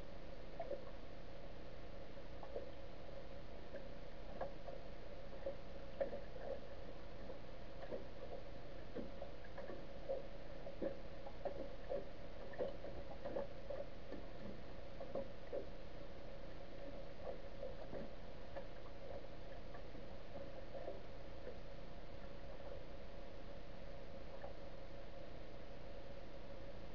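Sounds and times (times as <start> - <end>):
steady underwater hum: 0.0 - 26.9
underwater soft clicks and ticks: 0.0 - 26.9.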